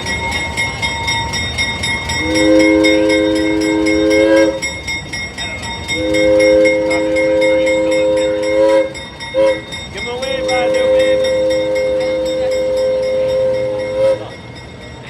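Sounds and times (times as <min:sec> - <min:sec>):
steam locomotive chime whistle: 0:00.0 - 0:15.0
train running noise: 0:00.0 - 0:15.0.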